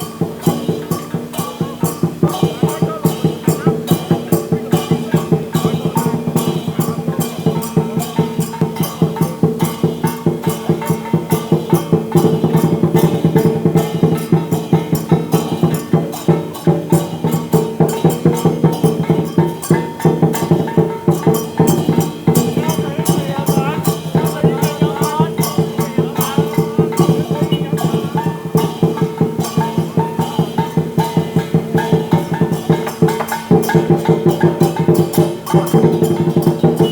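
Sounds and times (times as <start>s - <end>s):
cymbal clashes ringing: 0.0s - 36.9s
drum beat: 0.0s - 36.9s
gong: 0.0s - 36.9s.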